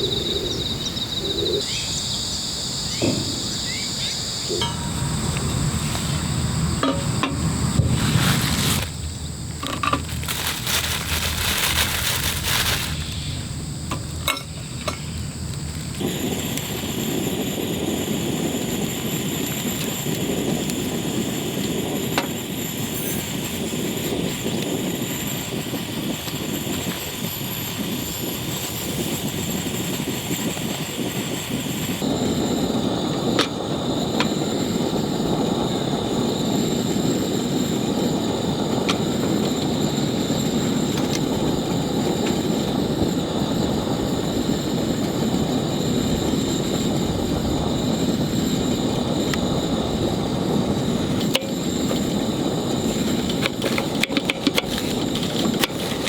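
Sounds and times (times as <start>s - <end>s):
strong wind: 0.0s - 56.0s.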